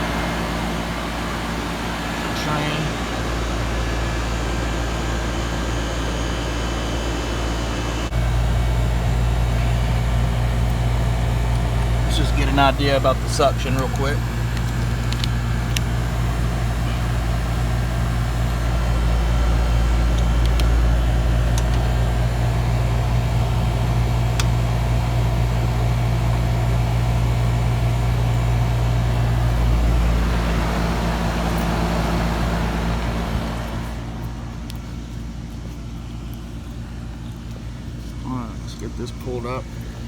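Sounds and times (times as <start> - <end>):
air conditioner compressor hum: 0.0 - 40.0.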